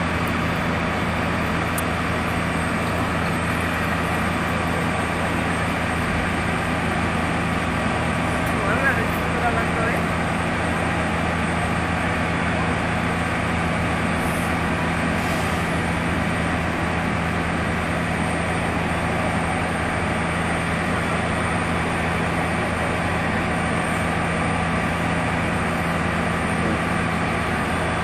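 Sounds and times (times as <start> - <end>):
fire engine idling: 0.0 - 28.0.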